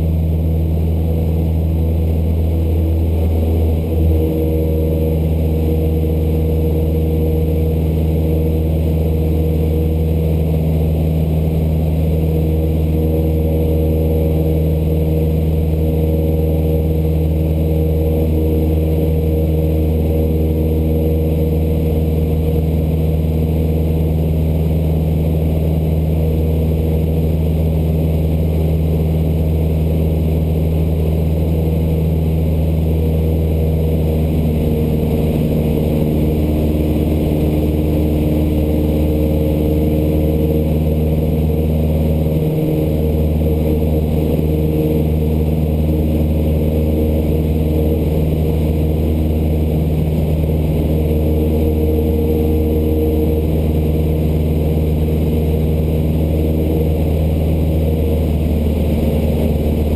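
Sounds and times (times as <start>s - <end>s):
light aircraft engine droning in cabin: 0.0s - 59.9s.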